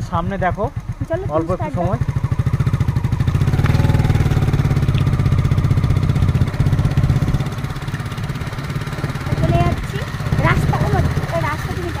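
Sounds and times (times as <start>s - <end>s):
small motorcycle engine running: 0.0s - 12.0s.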